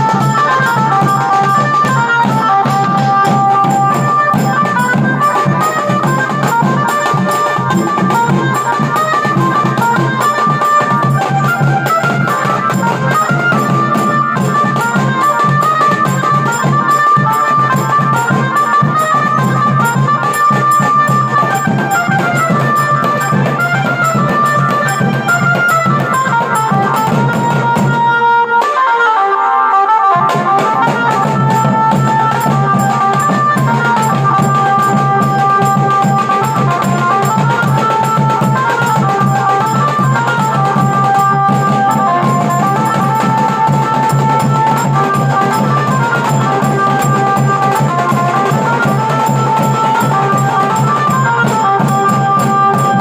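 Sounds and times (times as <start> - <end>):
large drums beaten in rhythm: 0.0 - 28.2, 30.1 - 53.0.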